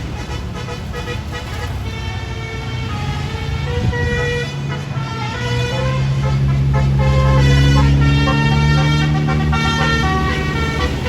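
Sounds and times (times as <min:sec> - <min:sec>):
diesel bus engine: 0:00.0 - 0:11.0
multi-tone musical bus horn: 0:00.0 - 0:11.0.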